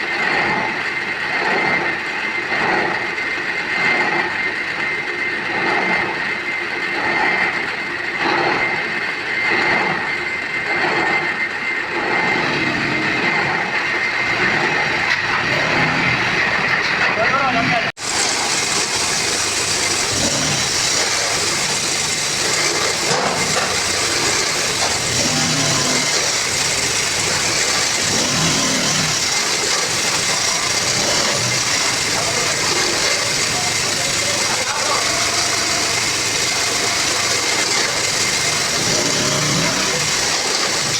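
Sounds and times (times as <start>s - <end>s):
machine running with high whine: 0.0s - 40.9s.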